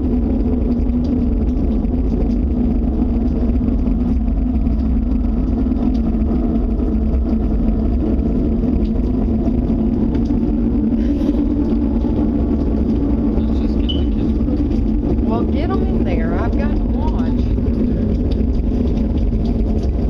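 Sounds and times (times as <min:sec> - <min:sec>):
loud low rumble with droning hum: 0:00.0 - 0:20.0.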